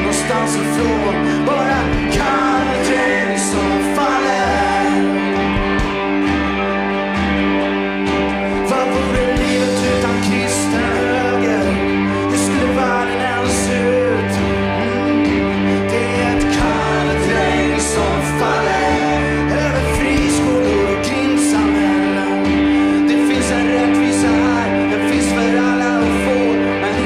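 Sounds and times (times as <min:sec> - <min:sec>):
man singing lead: 0:00.0 - 0:06.6, 0:08.4 - 0:27.0
harmony singers: 0:00.0 - 0:07.0, 0:08.3 - 0:27.0
live rock band playing: 0:00.0 - 0:27.0.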